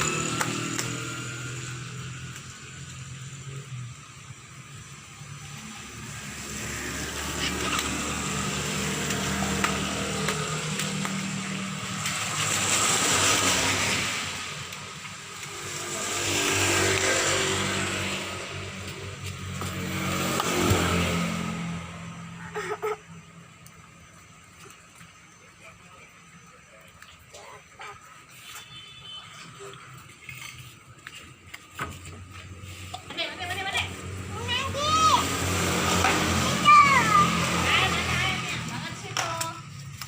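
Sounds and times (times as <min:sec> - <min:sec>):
cars passing: 0:00.0 - 0:40.0.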